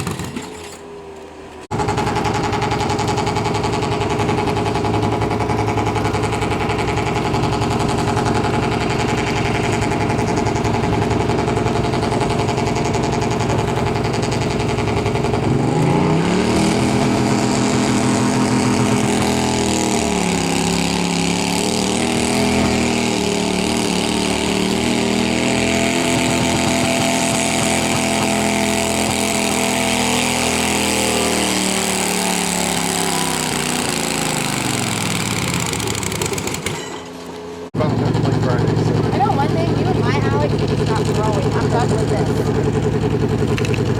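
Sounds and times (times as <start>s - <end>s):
garden tractor engine revving: 0.0s - 43.9s.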